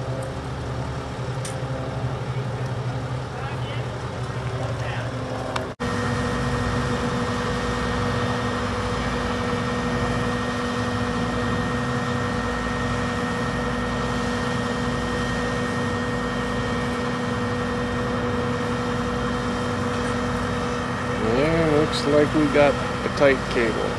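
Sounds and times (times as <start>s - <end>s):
truck engine running: 0.0s - 23.9s.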